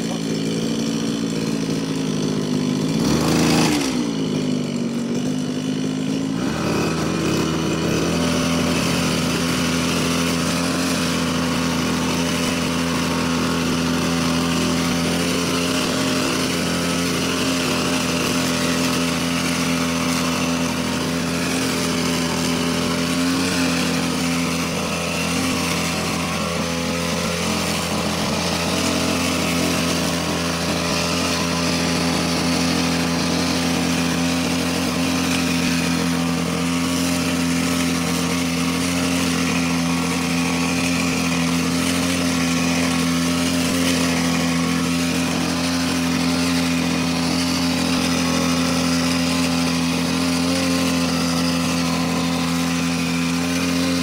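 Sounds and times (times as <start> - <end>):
brush cutter engine running: 0.0 - 54.0.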